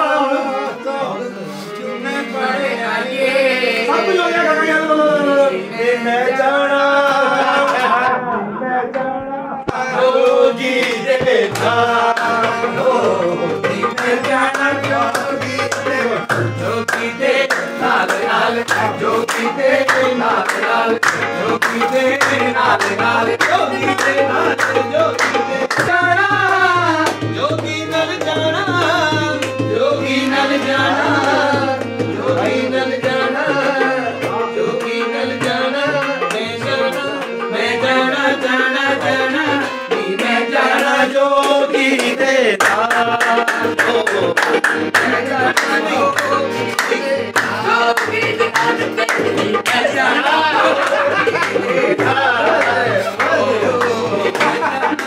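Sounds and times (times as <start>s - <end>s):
harmonium playing chords: 0.0s - 55.0s
man singing: 0.0s - 55.0s
hand drum rhythm: 9.7s - 55.0s.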